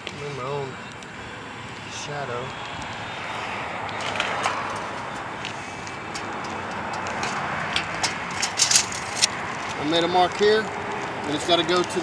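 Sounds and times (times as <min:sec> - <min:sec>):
background traffic noise: 0:00.0 - 0:12.0.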